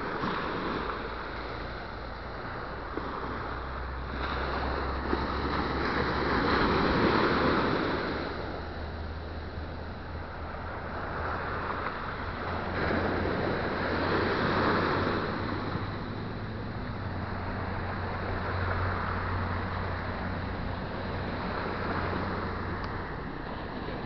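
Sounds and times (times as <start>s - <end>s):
low steady rumble: 0.0s - 24.0s
waves washing on shore: 0.0s - 24.0s.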